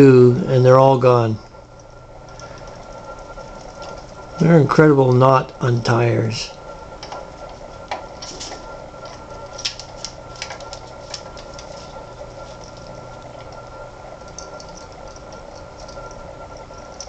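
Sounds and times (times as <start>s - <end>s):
machine-like hum: 0.0s - 17.0s.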